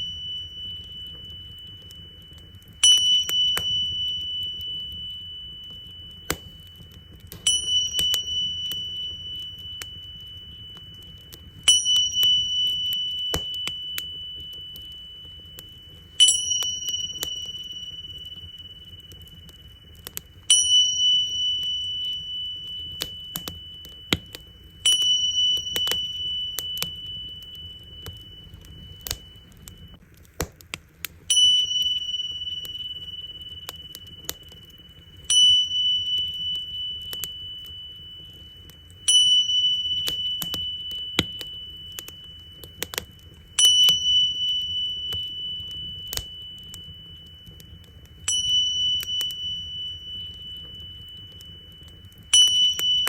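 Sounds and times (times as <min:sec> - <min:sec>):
tingsha cymbals ringing: 0:00.0 - 0:30.0, 0:31.3 - 0:53.0
wood fire crackling: 0:00.0 - 0:53.0.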